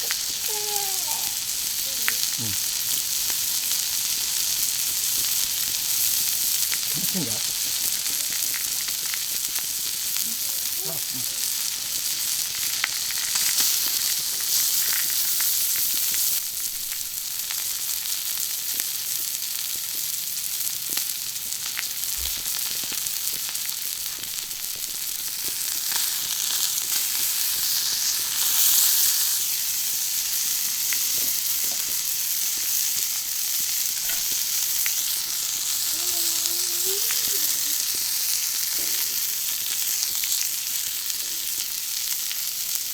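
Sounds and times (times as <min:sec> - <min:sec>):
food sizzling on a griddle: 0:00.0 - 0:42.9.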